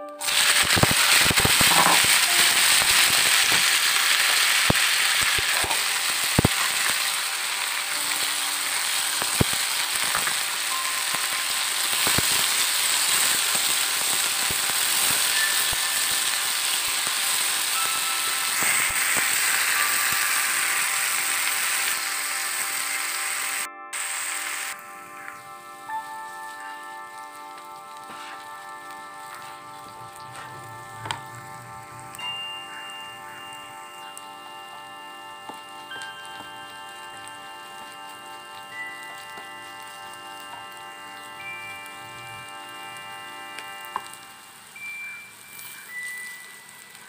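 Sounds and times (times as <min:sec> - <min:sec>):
green beans sizzling in oil: 0:00.0 - 0:47.0.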